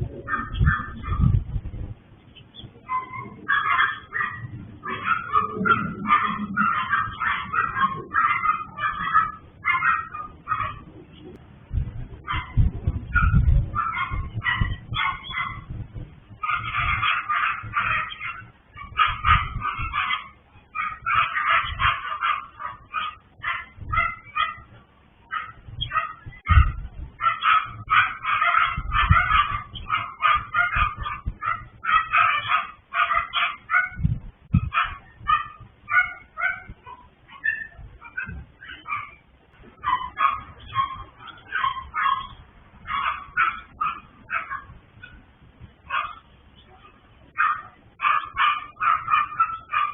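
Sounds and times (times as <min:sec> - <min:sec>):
small dogs barking and yapping: 0:00.0 - 0:01.5, 0:02.4 - 0:11.4, 0:12.1 - 0:49.9.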